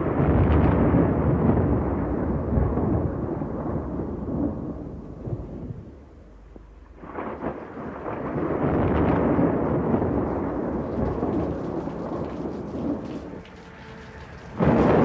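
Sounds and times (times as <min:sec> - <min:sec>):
low rolling thunder: 0:00.0 - 0:15.0
faint rain hiss: 0:01.8 - 0:15.0.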